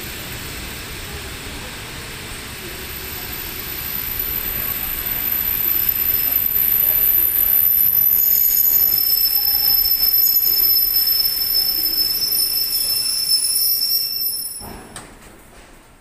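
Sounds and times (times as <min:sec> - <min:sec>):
high-pitched train whine: 0:00.0 - 0:14.7
train din: 0:00.0 - 0:15.4.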